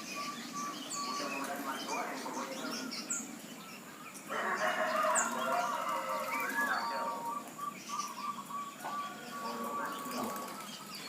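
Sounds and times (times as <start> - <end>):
bird calling: 0.0 - 11.0
small bird chirping: 0.0 - 11.0.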